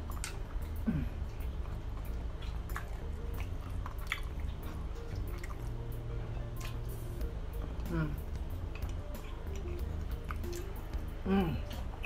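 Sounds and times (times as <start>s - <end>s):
person chewing fries: 0.0s - 12.0s.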